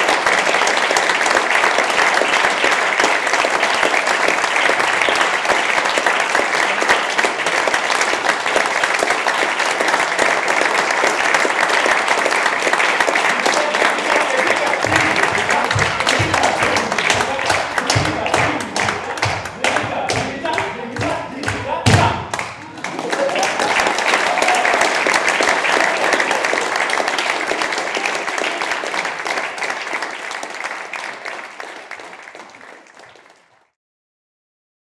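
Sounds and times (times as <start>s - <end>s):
audience applauding: 0.0s - 33.8s.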